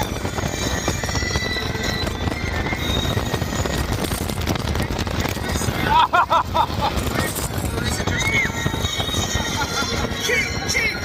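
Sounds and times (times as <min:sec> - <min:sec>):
music playing: 0:00.0 - 0:11.0
roller coaster rattling on track: 0:00.0 - 0:11.0.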